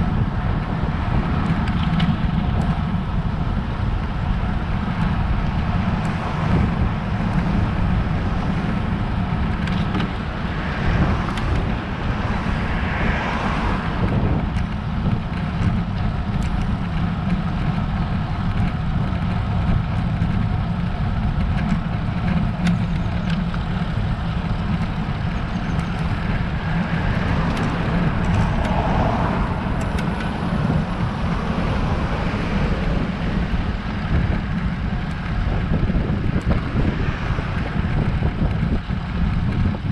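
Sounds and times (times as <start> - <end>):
bike road noise: 0.0 - 39.9
wind rumble on microphone: 0.0 - 39.9.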